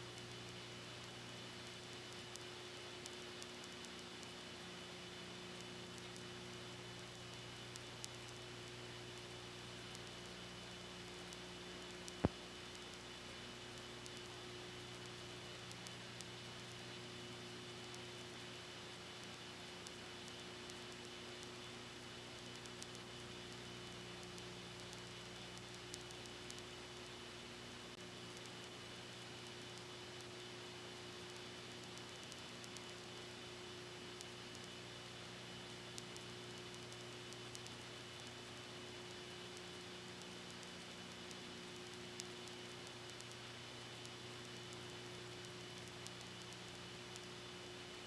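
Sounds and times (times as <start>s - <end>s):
low electrical hum: 0.0s - 48.0s
recording hiss: 0.0s - 48.0s
faint clicks: 0.1s - 48.0s.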